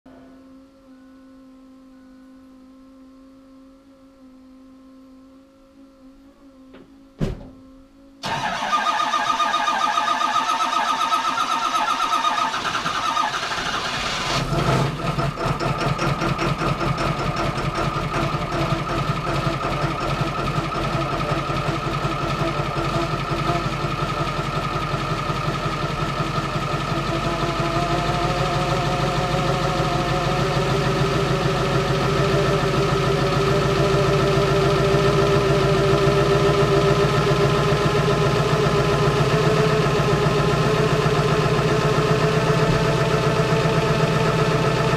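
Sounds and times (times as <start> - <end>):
diesel engine cranking and idling: 8.2 - 44.9.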